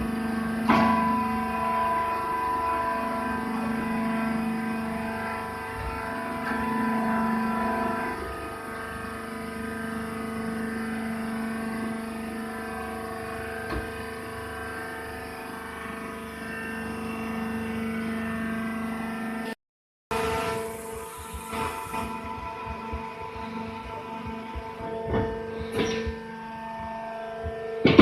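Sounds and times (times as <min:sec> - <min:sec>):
baler machine hum: 0:00.0 - 0:19.5, 0:20.1 - 0:28.0.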